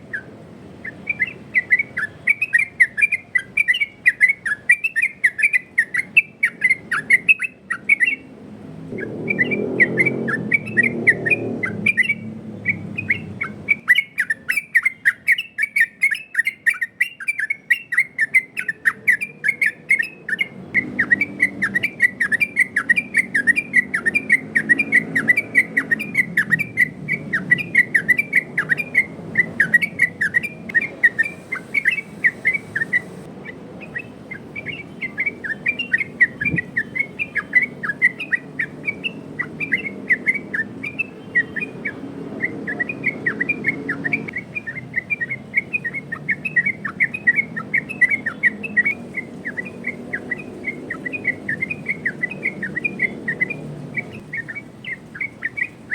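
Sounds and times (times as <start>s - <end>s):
bird chattering song: 0.0s - 8.3s, 8.9s - 55.9s.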